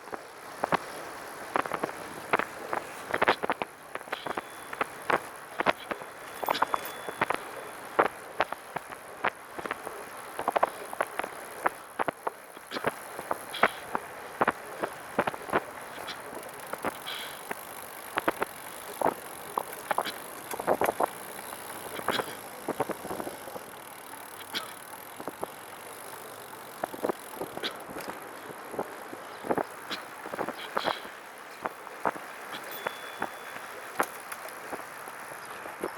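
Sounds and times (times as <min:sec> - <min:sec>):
steady rolling hiss: 0:00.0 - 0:35.9.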